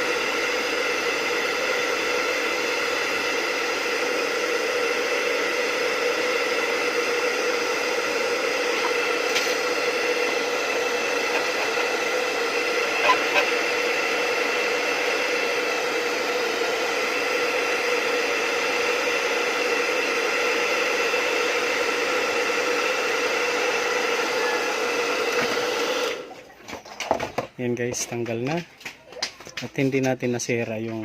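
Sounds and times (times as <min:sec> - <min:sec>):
hot-air blower whirring hiss: 0:00.0 - 0:28.6.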